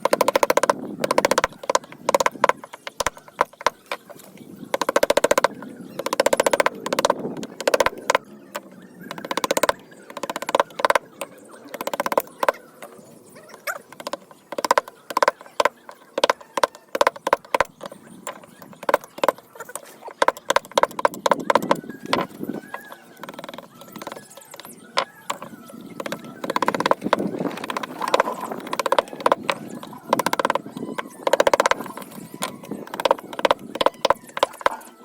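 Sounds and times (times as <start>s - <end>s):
rapid knocking on wood: 0.0s - 35.0s.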